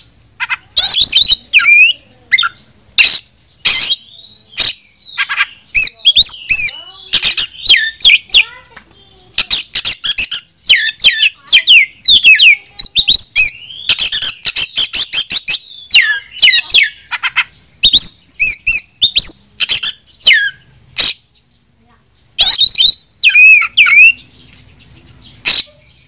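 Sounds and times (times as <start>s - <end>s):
songbird singing loudly: 0.0s - 26.0s.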